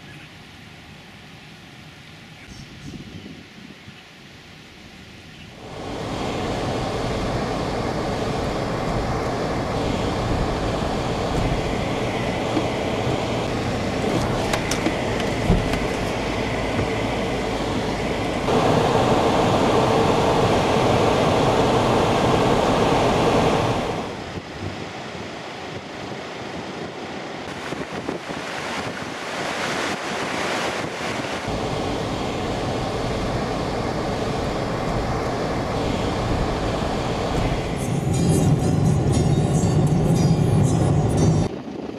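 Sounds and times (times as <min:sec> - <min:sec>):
wind noise: 0:02.5 - 0:41.9
vehicle engine and tyres rumbling: 0:05.5 - 0:41.9.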